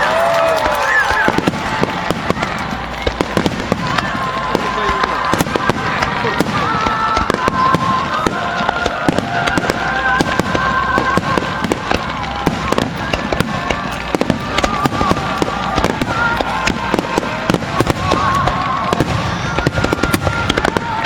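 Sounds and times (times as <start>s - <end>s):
fireworks bangs and crackles: 0.0s - 21.0s
high wavering firework tones: 0.0s - 21.0s.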